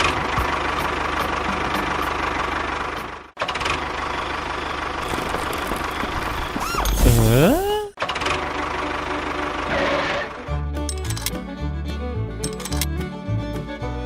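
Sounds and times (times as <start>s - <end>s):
engine running with knocking clatter: 0.0s - 11.4s.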